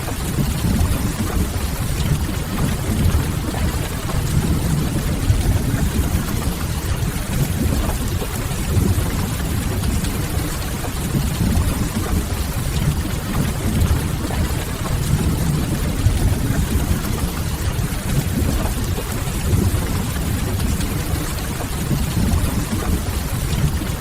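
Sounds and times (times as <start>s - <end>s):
rain rushing: 0.0s - 24.0s.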